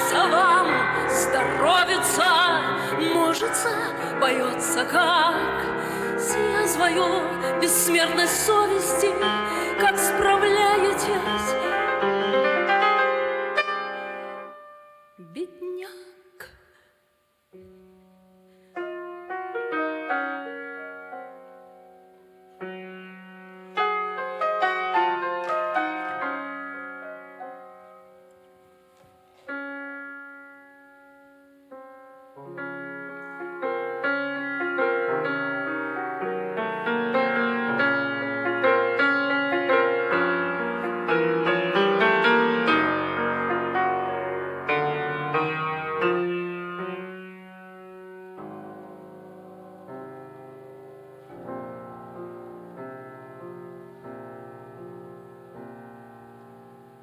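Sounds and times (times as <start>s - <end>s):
piano chords: 0.0s - 15.9s, 17.4s - 57.0s.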